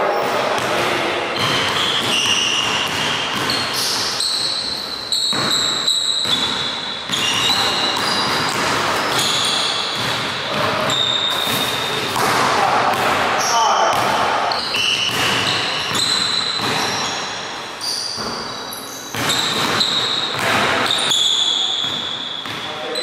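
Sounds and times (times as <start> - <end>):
sneakers squeaking: 0.0 - 23.0
basketball bouncing on wooden floor: 0.2 - 13.3, 13.9 - 17.2, 18.2 - 18.5, 19.1 - 22.7.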